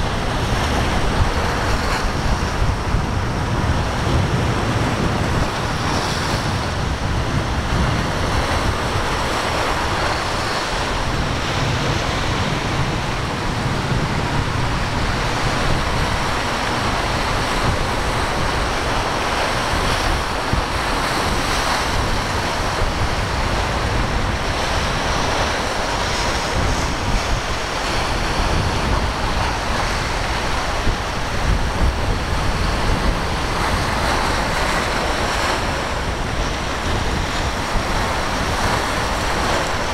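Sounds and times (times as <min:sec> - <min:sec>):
surf breaking: 0:00.0 - 0:39.9
wind buffeting microphone: 0:00.0 - 0:39.9.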